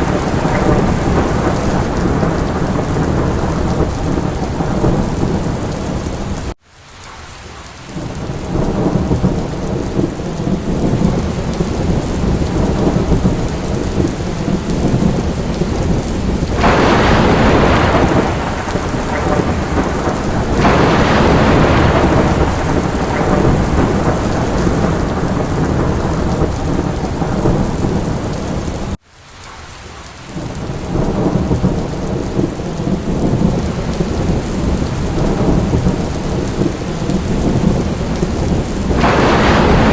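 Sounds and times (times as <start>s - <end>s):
low rumbling thunder: 0.0s - 6.5s, 8.0s - 29.0s, 30.4s - 39.9s
heavy rain: 0.0s - 39.9s.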